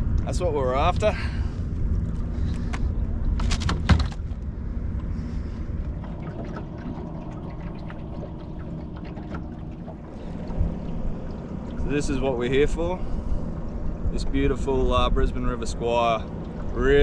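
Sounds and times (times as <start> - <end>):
water and wind rumble: 0.0 - 17.0.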